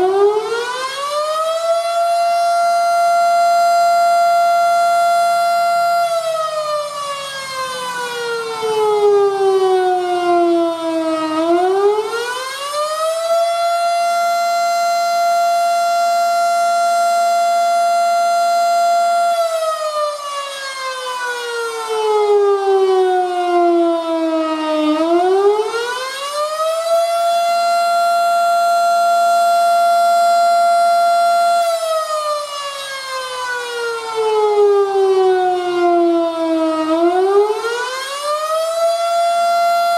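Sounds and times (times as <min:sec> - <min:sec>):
rising and falling warning siren: 0:00.0 - 0:39.9.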